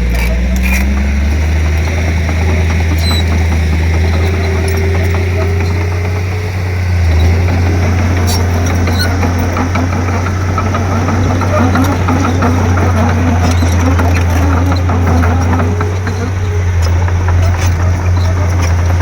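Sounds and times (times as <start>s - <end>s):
diesel engine droning: 0.0s - 19.0s
light metal clanks: 0.0s - 19.0s.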